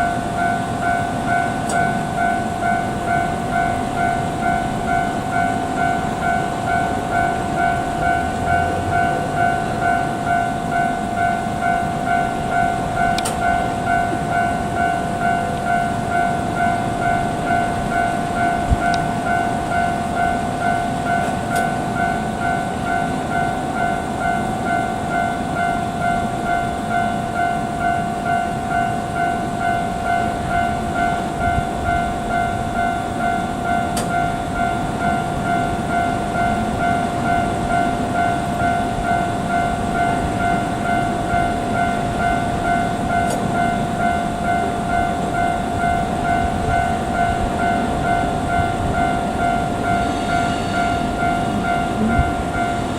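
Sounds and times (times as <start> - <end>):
freight train rumbling past: 0.0 - 52.9
level-crossing alarm ringing: 0.0 - 52.9.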